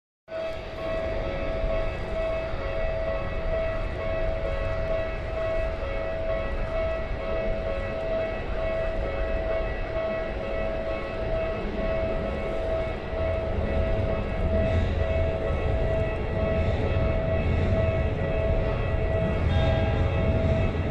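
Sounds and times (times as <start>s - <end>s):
level-crossing warning bell: 0.3s - 20.9s
low rumble: 0.4s - 20.9s.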